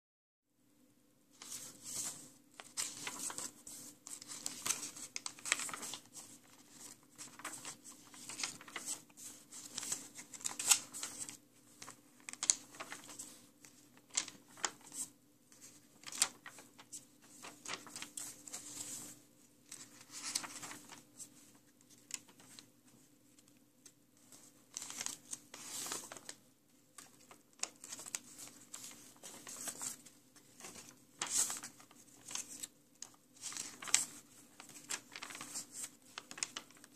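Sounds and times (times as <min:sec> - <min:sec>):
paper pages turning: 0:01.4 - 0:22.7, 0:24.2 - 0:36.9.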